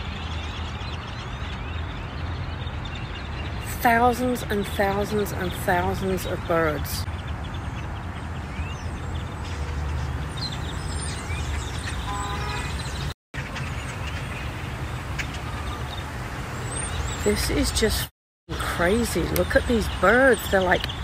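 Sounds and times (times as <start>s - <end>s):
flock of birds chirping: 0.0s - 21.0s
low traffic rumble: 0.0s - 21.0s.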